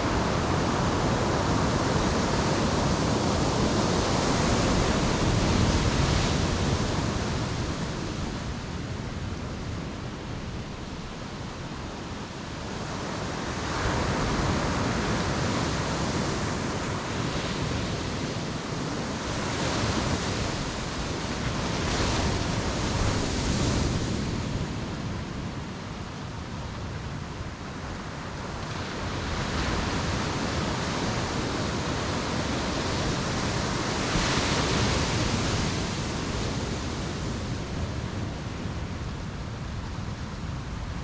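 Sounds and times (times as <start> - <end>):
ocean surf breaking on shore: 0.0 - 41.0.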